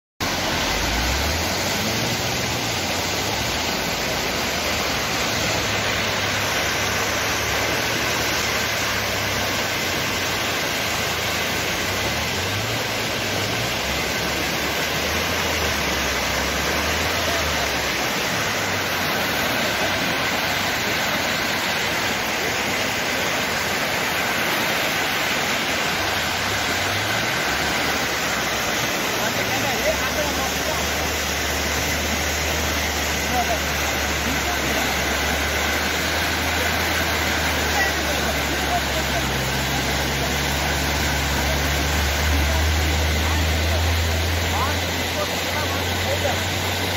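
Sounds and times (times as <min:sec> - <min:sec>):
floodwater rushing: 0:00.2 - 0:46.9.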